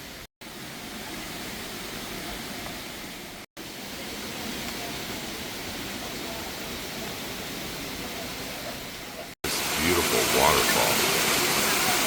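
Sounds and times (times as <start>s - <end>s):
rain: 0.0s - 12.0s
waterfall rushing: 0.4s - 12.0s.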